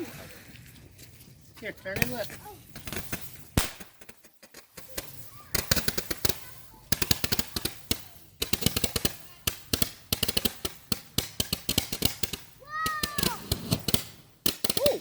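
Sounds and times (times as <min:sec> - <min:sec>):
firecrackers popping: 0:02.0 - 0:15.0.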